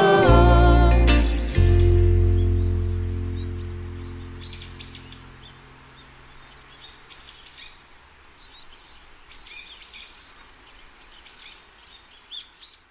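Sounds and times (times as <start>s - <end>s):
steady background hiss: 0.0s - 12.9s
small birds chirping: 0.9s - 12.9s.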